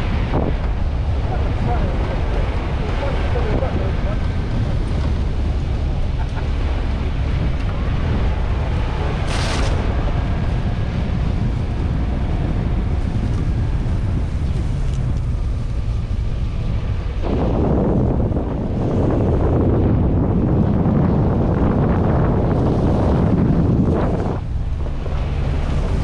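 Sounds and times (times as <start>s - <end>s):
engine and drivetrain rumble: 0.0s - 26.0s
wind buffeting microphone: 0.0s - 26.0s.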